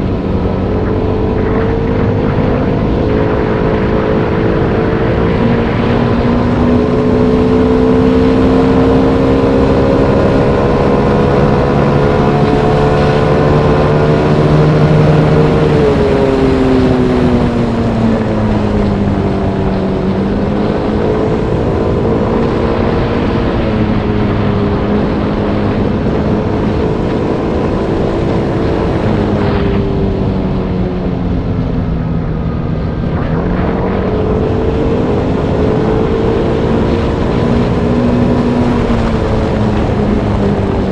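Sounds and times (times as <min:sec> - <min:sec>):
wind and road rush: 0:00.0 - 0:40.9.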